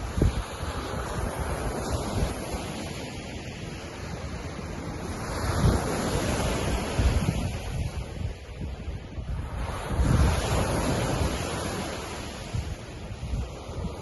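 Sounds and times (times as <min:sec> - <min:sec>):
waves washing against shore: 0:00.0 - 0:14.0
wind buffeting microphone: 0:00.0 - 0:14.0.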